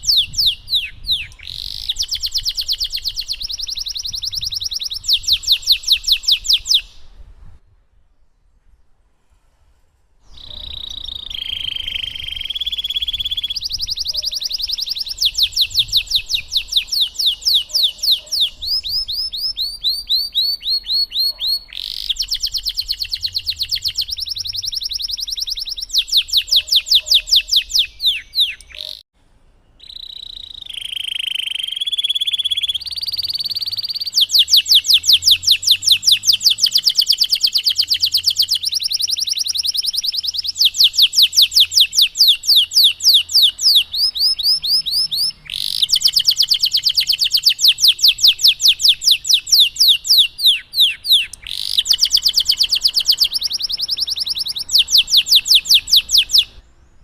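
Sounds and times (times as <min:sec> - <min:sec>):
canary singing trills: 0:00.0 - 0:07.1, 0:10.3 - 0:29.0, 0:29.7 - 0:56.8.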